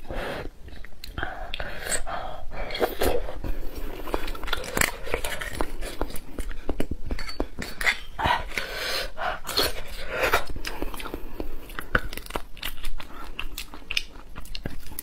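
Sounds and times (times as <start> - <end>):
wet chewing: 0.6 - 15.0.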